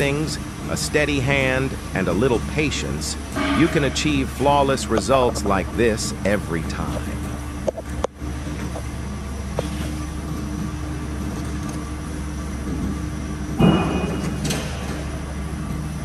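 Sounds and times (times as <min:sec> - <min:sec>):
workshop machinery rumble: 0:00.0 - 0:16.0.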